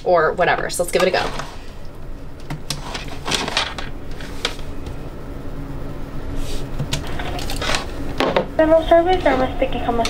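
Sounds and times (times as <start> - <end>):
low cabin hum: 0.0 - 10.0.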